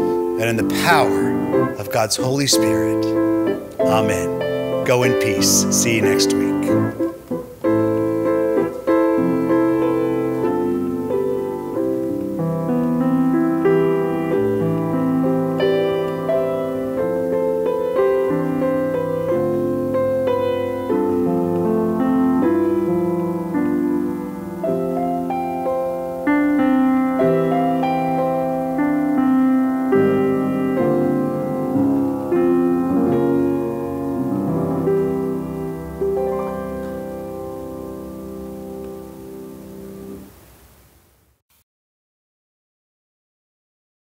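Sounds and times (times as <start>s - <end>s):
grand piano chords and melody: 0.0s - 40.6s.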